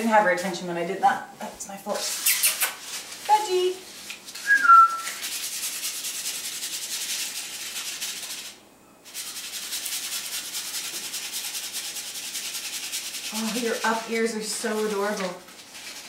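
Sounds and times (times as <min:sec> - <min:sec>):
paper scraping on concrete: 0:02.0 - 0:16.0.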